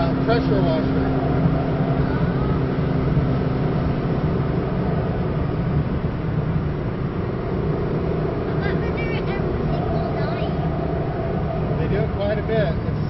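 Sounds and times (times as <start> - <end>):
car engine drone: 0.0 - 13.0
tyre and road noise: 0.0 - 13.0.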